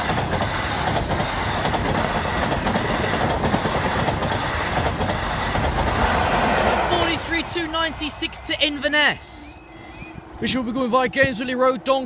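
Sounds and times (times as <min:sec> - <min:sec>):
train passing at speed: 0:00.0 - 0:10.8.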